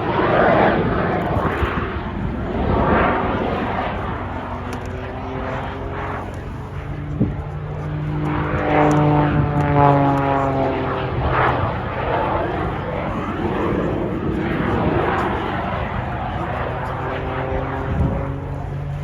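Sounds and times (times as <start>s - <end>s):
jet engines rushing: 0.0s - 19.0s
propeller plane engine: 0.0s - 19.0s.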